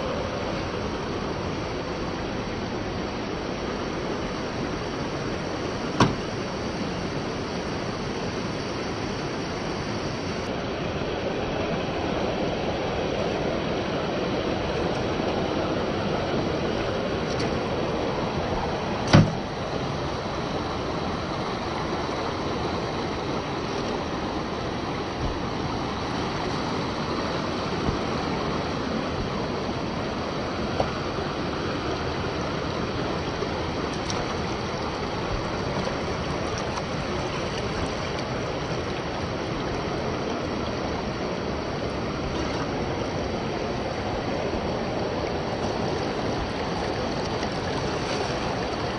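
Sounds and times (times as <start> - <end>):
waterfall and stream rushing: 0.0 - 48.9.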